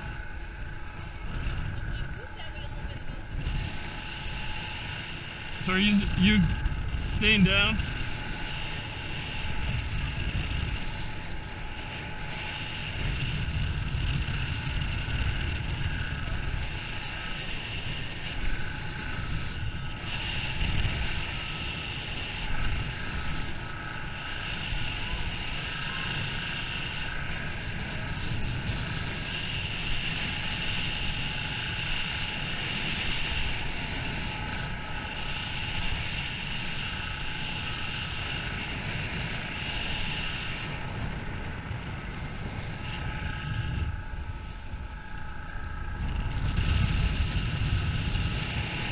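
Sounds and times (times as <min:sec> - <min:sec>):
steady mechanical hum: 0:00.0 - 0:48.9
wind buffeting microphone: 0:00.0 - 0:48.9.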